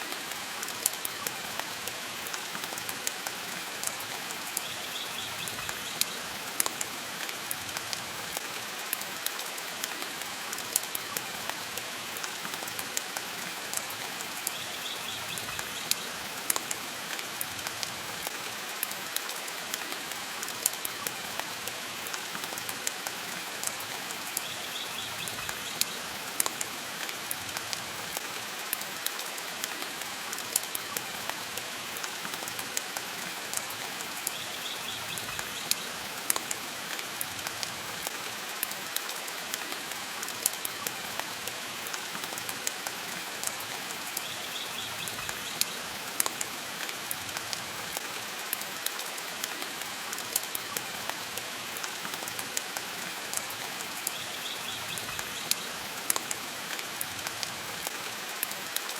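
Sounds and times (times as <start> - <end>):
rain hissing: 0.0 - 58.9.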